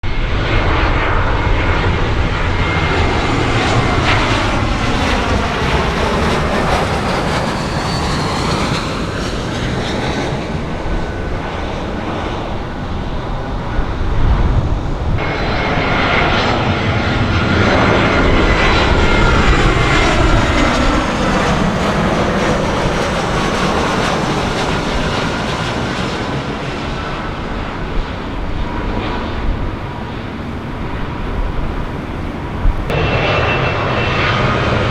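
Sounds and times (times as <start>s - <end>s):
jet airliner passing: 0.0s - 34.9s.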